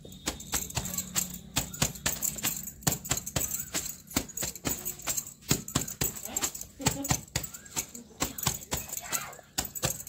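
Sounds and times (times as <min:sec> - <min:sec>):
bangles jingling: 0:00.0 - 0:10.0.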